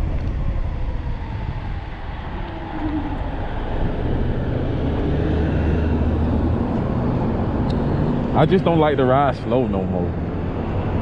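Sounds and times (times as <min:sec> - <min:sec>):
road noise: 0:00.0 - 0:11.0
wind rumbling on microphone: 0:00.0 - 0:11.0.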